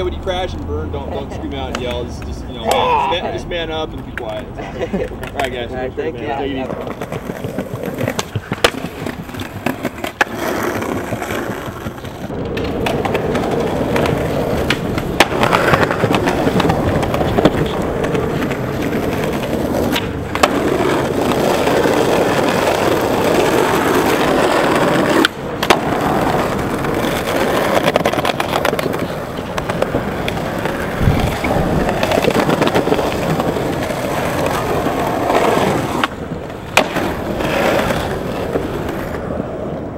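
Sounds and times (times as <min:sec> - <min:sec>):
skateboard clacking: 0:00.0 - 0:39.9
skateboard wheels rolling on concrete: 0:00.0 - 0:39.9.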